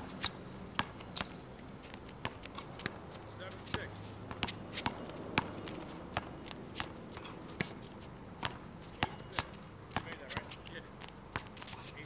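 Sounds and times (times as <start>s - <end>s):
basketball bouncing on asphalt: 0.0s - 11.8s.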